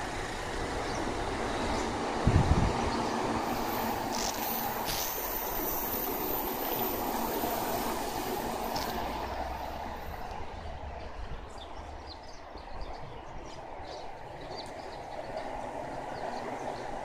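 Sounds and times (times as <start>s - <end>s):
distant train rumbling on rails: 0.0s - 17.0s.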